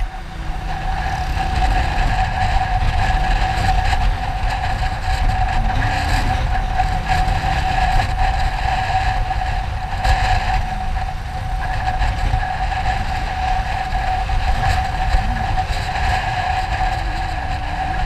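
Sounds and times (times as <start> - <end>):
motorcycle engine whine: 0.0 - 18.0
wind rumbling on microphone: 0.0 - 18.0.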